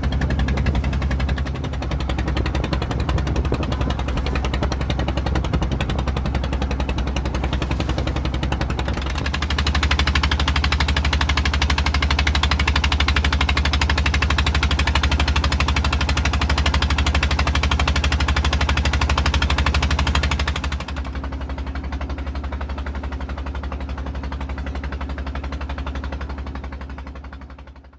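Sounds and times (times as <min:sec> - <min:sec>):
boat engine chugging: 0:00.0 - 0:27.9.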